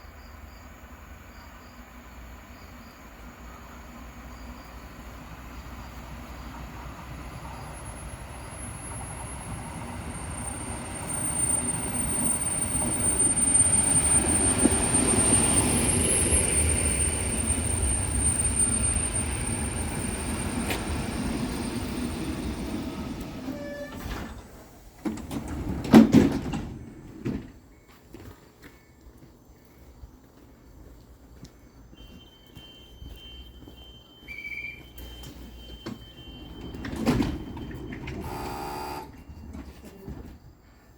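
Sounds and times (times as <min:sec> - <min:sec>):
train rumbling on rails: 0:00.0 - 0:28.0, 0:29.3 - 0:40.9.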